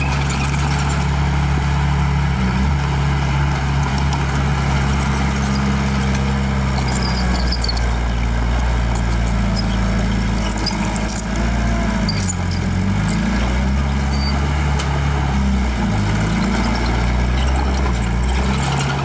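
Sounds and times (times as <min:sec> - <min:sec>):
bulldozer diesel engine: 0:00.0 - 0:19.0.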